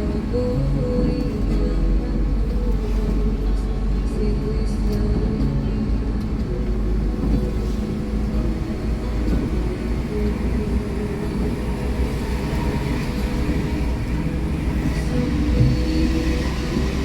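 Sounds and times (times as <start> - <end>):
diesel bus engine drone: 0.0 - 17.0
road rumble: 0.0 - 17.0.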